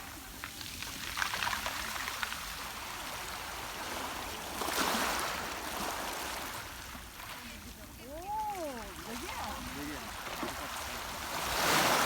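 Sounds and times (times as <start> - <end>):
waves washing over pebbles: 0.0 - 12.0.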